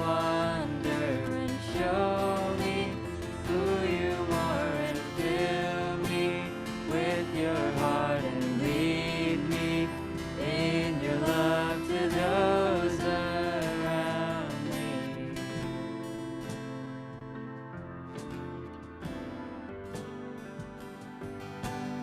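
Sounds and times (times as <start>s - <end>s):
acoustic guitar: 0.0s - 22.0s
worship band music: 0.0s - 22.0s.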